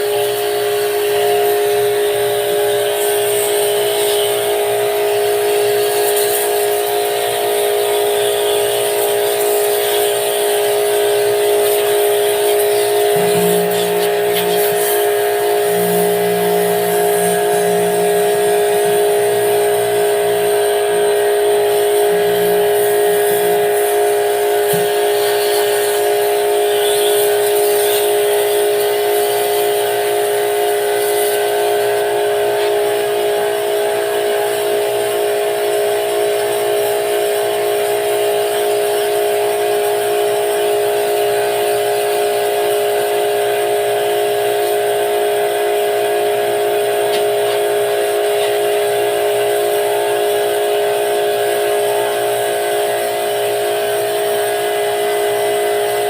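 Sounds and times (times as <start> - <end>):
pressure washer whining: 0.0 - 56.0.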